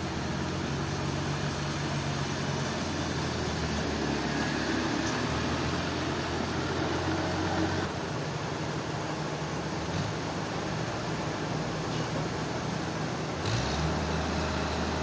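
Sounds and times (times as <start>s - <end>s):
low engine drone: 0.0s - 15.0s
sawmill machinery running: 0.0s - 15.0s.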